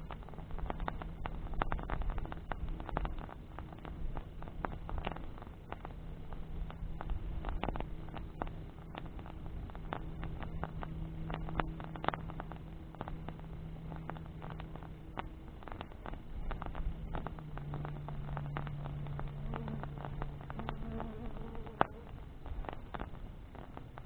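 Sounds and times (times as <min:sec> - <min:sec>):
bonfire crackling and popping: 0:00.0 - 0:24.0
faint steady hum: 0:00.0 - 0:24.0
low rumble of flame: 0:00.0 - 0:24.0.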